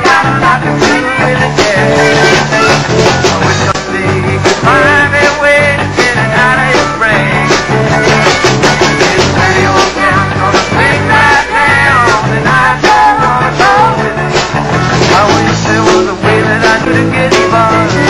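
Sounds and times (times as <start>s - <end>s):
bass line: 0.0s - 18.0s
steady drum beat: 0.0s - 18.0s.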